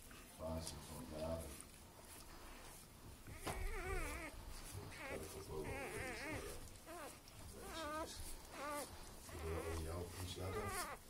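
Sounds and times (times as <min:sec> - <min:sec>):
puppies crying: 0:02.1 - 0:11.0.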